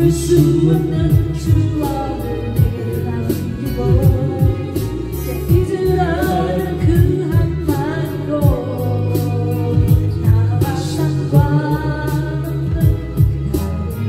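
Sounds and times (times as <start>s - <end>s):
person singing karaoke: 0.0s - 14.0s
pop ballad backing track: 0.0s - 14.0s.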